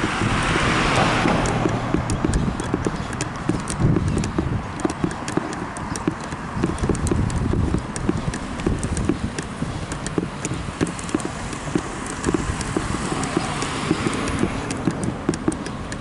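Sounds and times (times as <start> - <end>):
camera knocking and rubbing: 0.0 - 16.0
footsteps on concrete: 0.0 - 16.0.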